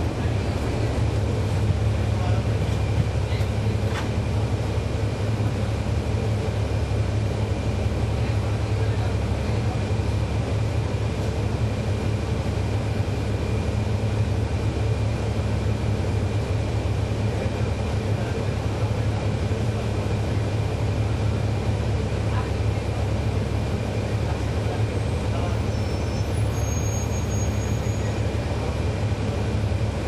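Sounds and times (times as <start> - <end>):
bus diesel engine humming: 0.0 - 30.0.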